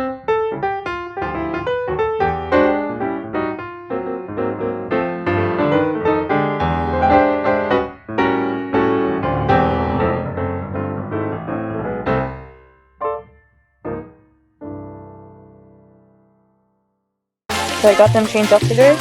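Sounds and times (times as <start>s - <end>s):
piano music: 0.0s - 16.8s, 17.5s - 19.0s.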